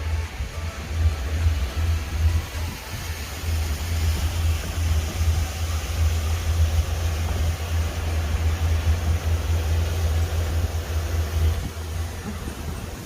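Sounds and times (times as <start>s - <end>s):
aerial tram gondola rumble: 0.0s - 13.0s
hiss: 0.0s - 13.0s.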